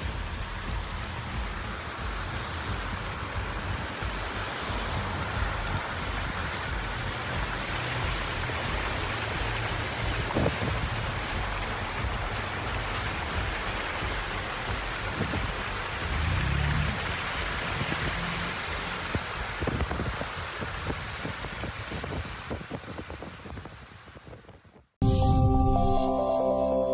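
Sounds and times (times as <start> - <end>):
tyres splashing through water: 0.0 - 24.1
wind rumbling on microphone: 0.0 - 25.0.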